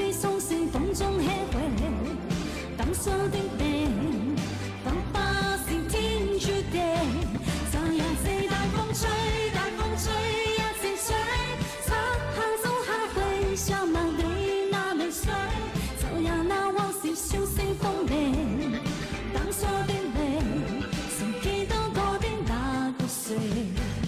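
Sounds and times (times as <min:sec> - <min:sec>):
pop band backing with beat: 0:00.0 - 0:24.0
woman singing: 0:00.0 - 0:24.0.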